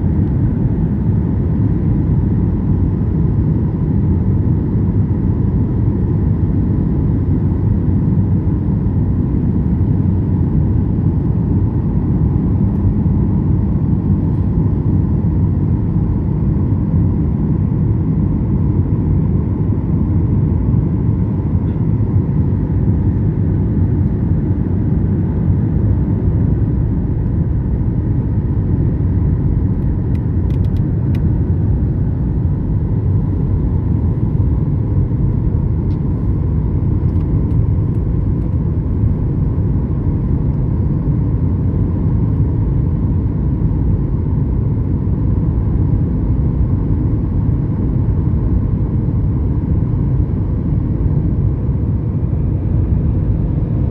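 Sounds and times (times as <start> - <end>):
airliner engine rumble: 0.0 - 53.9.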